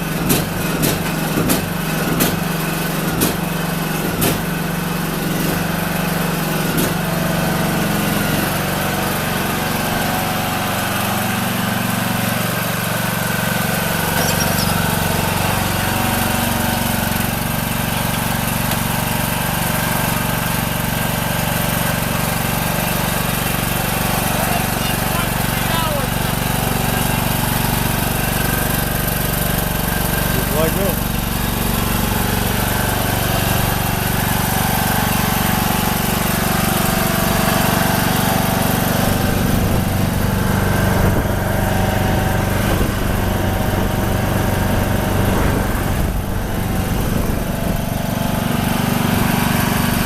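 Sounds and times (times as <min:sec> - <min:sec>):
lawn tractor engine running: 0:00.0 - 0:50.0.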